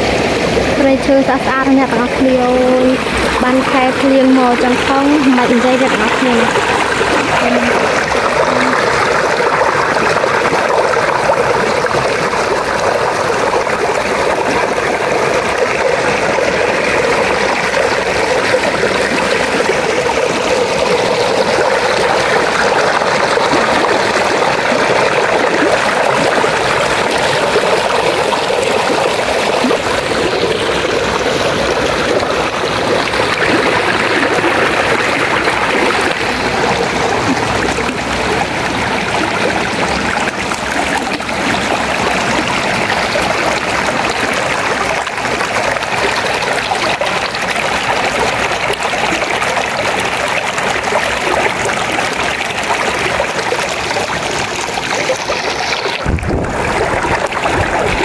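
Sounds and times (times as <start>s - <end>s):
stream splashing over boulders: 0.0s - 58.0s.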